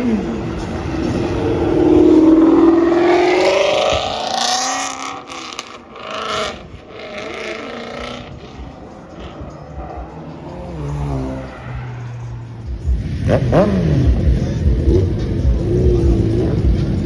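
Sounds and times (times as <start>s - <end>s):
car accelerating hard: 0.0s - 17.0s
engine revving: 0.0s - 17.0s.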